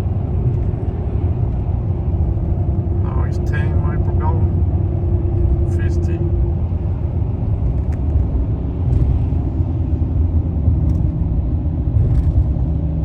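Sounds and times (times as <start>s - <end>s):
pickup engine rumbling: 0.0s - 13.0s
road noise: 0.0s - 13.0s.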